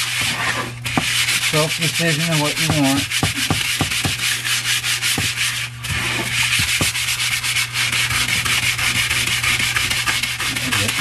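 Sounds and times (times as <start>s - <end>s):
sandpaper sanding wood: 0.0s - 11.0s
steady low hum: 0.0s - 11.0s.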